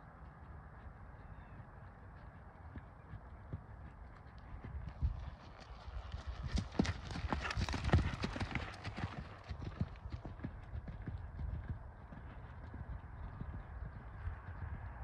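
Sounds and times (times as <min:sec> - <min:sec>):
horse hoofbeats on sand: 0:00.0 - 0:15.0.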